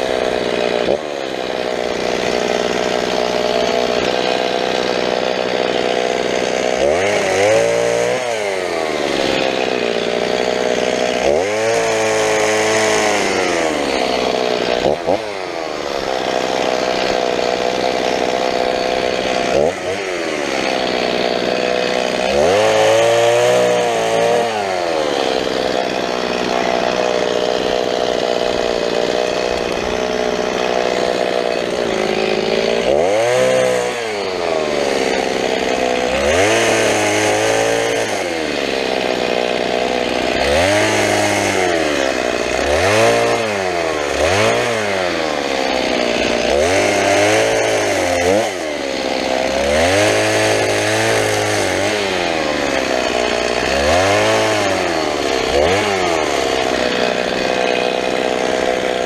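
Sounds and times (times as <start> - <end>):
chainsaw cutting branches: 0.0 - 59.0.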